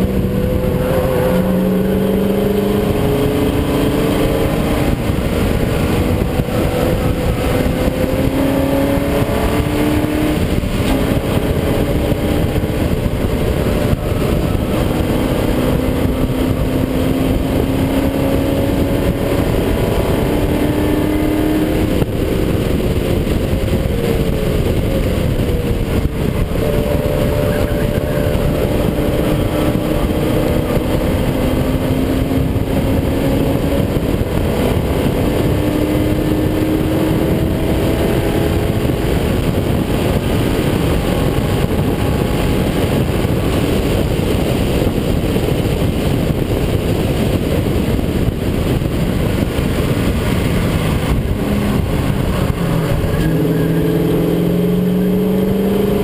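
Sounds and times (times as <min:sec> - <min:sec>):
car engine accelerating: 0:00.0 - 0:56.0
wind and road noise: 0:00.0 - 0:56.0.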